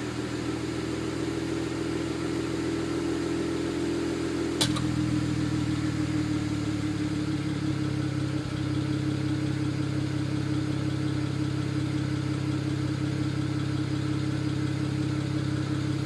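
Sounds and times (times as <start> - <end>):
car engine idling with misfire: 0.0 - 16.0.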